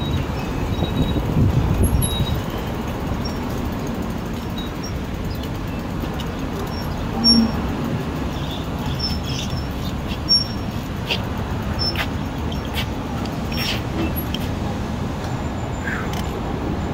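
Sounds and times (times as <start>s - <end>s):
vehicle engine rumble: 0.0s - 16.9s.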